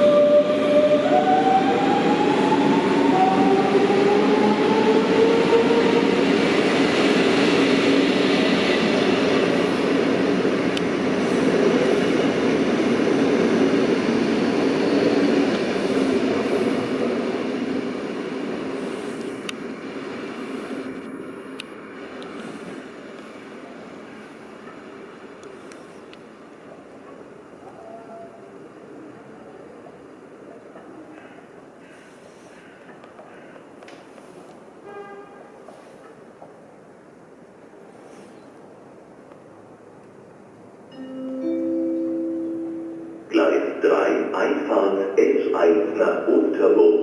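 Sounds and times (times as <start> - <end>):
wheels rumbling on rail: 0.0 - 43.8.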